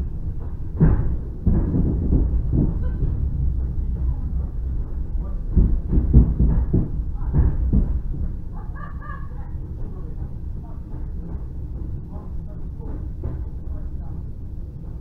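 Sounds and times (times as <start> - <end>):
wheels knocking over rail joints: 0.0 - 14.3
train rumbling inside carriage: 0.0 - 15.0.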